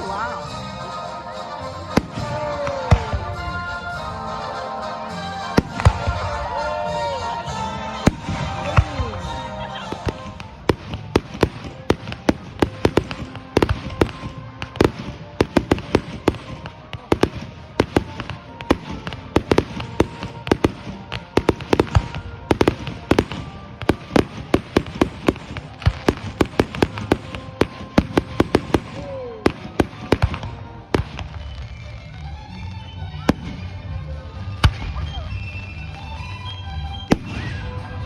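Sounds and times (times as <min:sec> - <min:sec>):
fireworks bangs and crackles: 0:01.7 - 0:04.3, 0:05.4 - 0:38.0.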